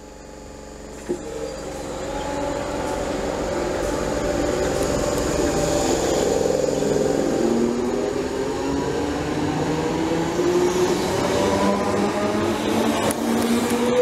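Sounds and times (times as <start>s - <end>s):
electric train motors whining: 0.0s - 14.0s
train wheel rumble: 0.0s - 14.0s.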